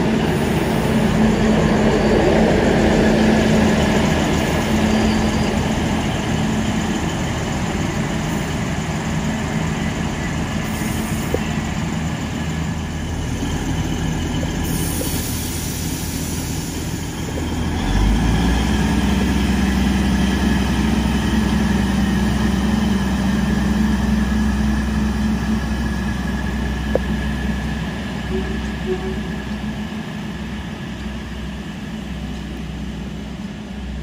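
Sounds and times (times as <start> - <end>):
diesel railcar engine drone: 0.0 - 34.0.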